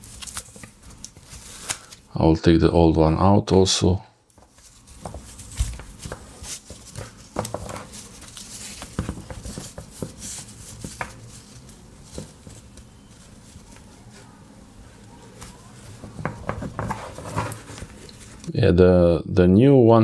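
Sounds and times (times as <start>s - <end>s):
plastic packaging rustling: 0.0s - 2.1s, 4.3s - 18.5s.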